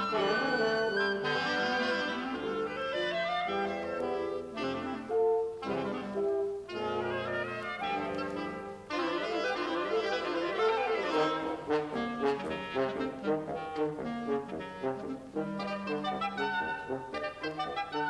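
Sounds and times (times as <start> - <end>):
woodwind quintet playing: 0.0 - 18.0.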